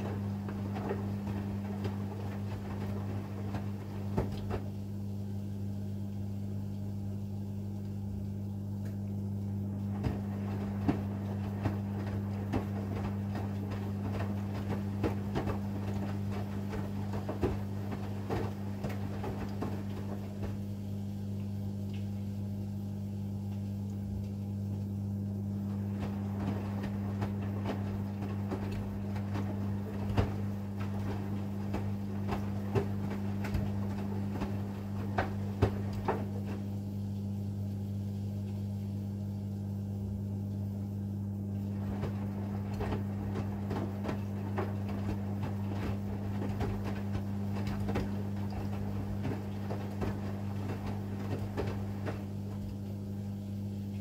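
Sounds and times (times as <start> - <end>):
laundry and water sloshing: 0.0 - 54.0
steady low hum: 0.0 - 54.0
washing machine drum tumbling: 0.0 - 54.0.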